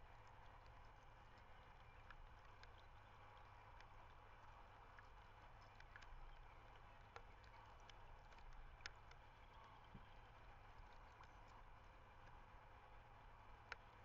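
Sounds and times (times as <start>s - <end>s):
faint ticks and clicks: 0.0s - 14.0s
low steady rumble: 0.0s - 14.0s.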